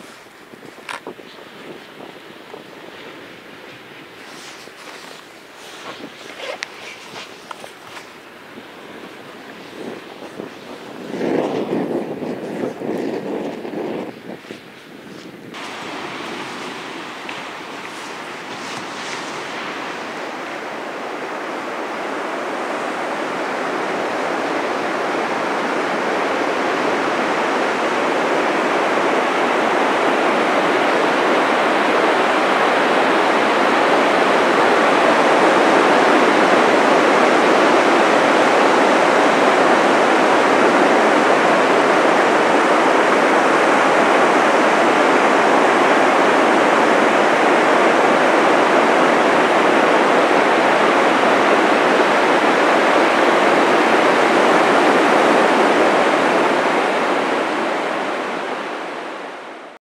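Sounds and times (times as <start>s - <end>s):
ocean surf on sandy beach: 0.0s - 59.8s.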